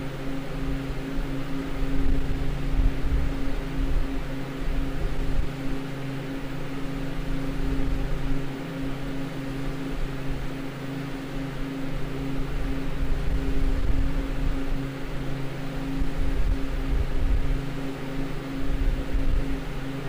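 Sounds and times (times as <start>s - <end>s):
evaporator fans blowing air: 0.0s - 20.0s
low electrical hum: 0.0s - 20.0s.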